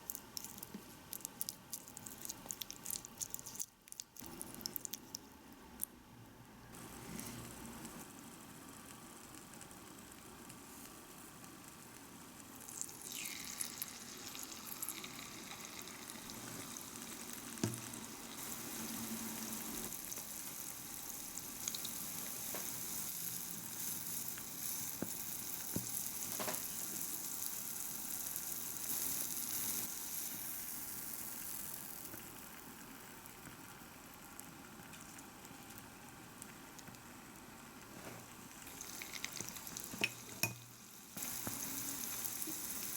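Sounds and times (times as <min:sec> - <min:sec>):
oil sizzling in a pan: 0:06.8 - 0:35.4, 0:37.0 - 0:42.9.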